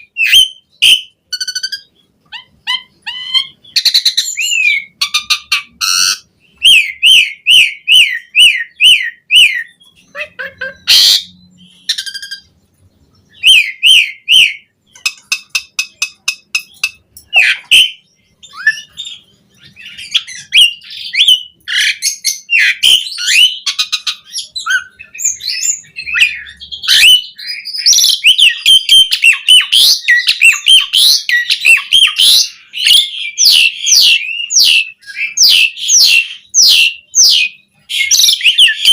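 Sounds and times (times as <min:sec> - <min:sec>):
starling singing whistles and trills: 0:00.0 - 0:38.9.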